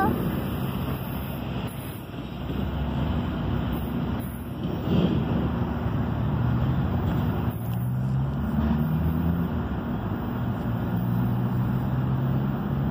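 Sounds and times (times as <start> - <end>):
freight train rumbling past: 0.0 - 12.9.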